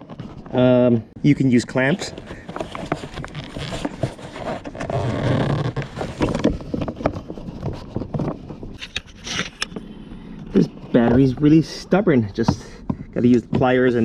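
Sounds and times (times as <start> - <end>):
rubbing and scraping: 0.0 - 14.0.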